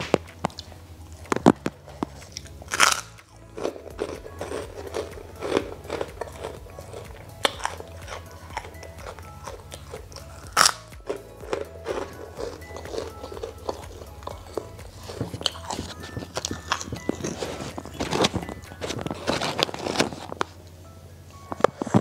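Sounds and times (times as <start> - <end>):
loud crunch of cracker: 0.0 - 20.6
person chewing crispy food: 0.0 - 20.7.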